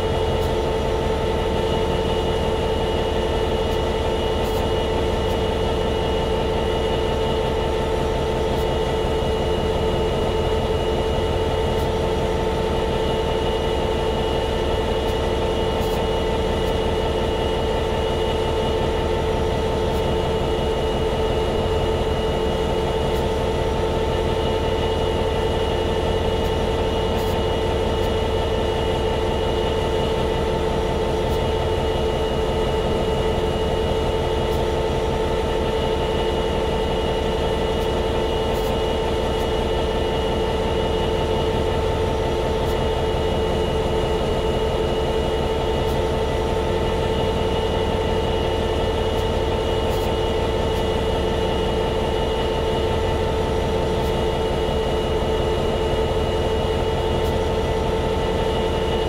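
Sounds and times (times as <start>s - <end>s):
diesel locomotive engine idling: 0.0s - 59.0s.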